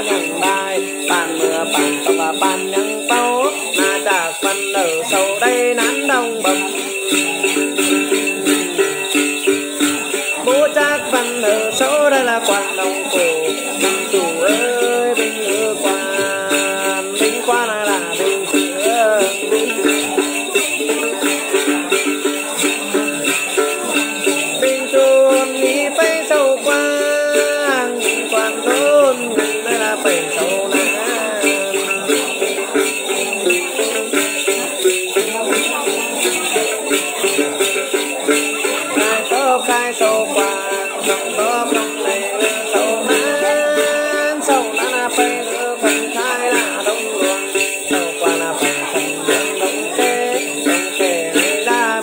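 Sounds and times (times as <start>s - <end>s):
man chanting a song: 0.0s - 21.2s, 23.8s - 37.3s, 38.2s - 52.0s
plucked lute: 0.0s - 52.0s
steady jingling: 0.0s - 52.0s.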